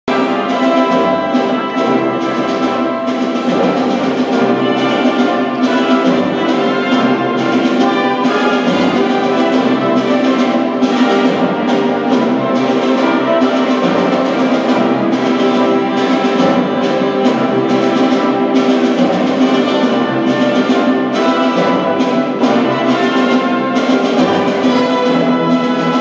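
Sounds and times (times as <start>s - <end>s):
orchestral music with brass: 0.1s - 26.0s.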